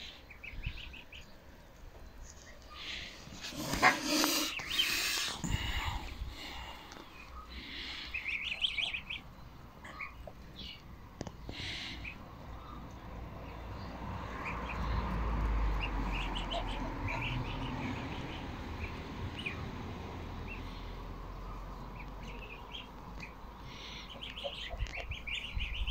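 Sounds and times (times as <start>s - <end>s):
goslings peeping: 2.4s - 10.9s, 11.5s - 13.7s, 15.7s - 25.9s.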